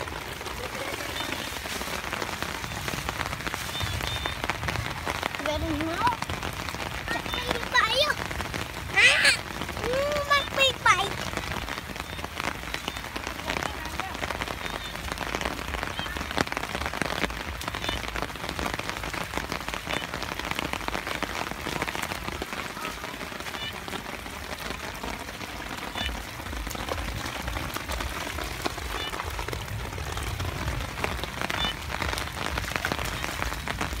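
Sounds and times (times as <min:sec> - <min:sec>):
rain falling on grass: 0:00.0 - 0:34.0.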